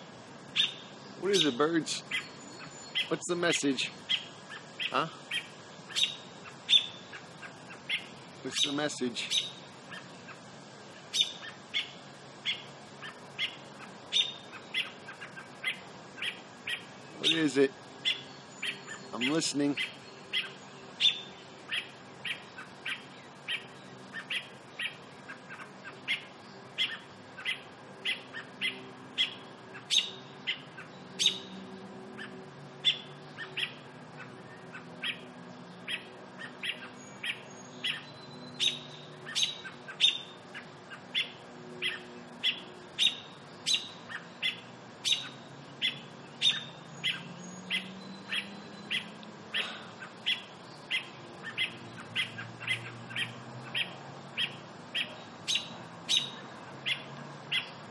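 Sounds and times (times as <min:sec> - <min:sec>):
robin alarm calls: 0:00.0 - 0:57.9.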